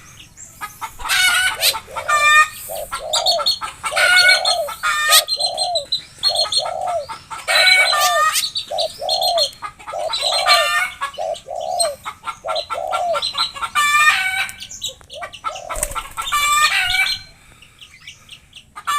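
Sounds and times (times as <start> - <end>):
birds low arched notes: 0.0 - 13.6, 14.6 - 18.7
birds high chattering calls: 0.0 - 18.9.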